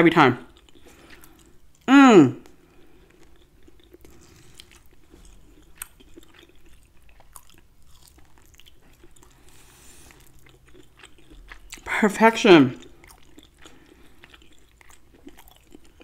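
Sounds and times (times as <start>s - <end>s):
chewing meat off bone: 0.5s - 11.9s, 12.7s - 16.0s.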